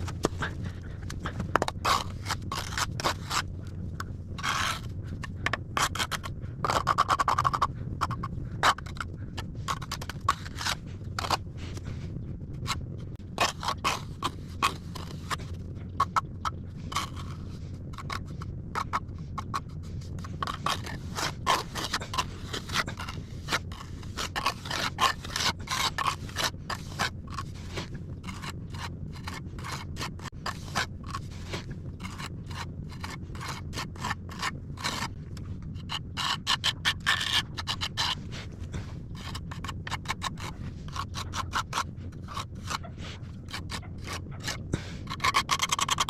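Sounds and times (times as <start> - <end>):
tool scraping wet mortar: 0.0 - 46.0.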